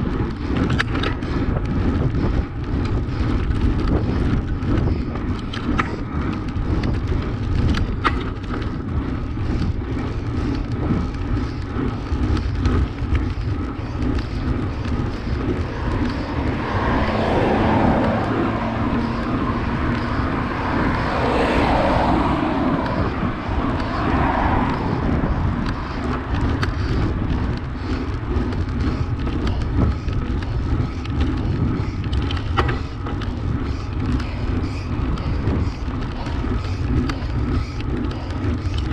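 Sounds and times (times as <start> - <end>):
wind and tyre rumble: 0.0 - 38.9
car passing: 0.1 - 38.9.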